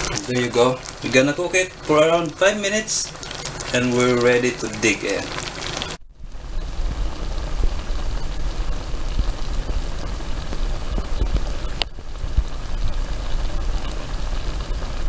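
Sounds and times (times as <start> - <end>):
pan simmering with pops: 0.0 - 15.0.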